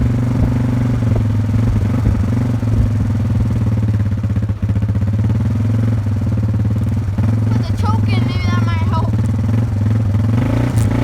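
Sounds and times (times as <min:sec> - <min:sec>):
atv engine idling unevenly: 0:00.0 - 0:11.0.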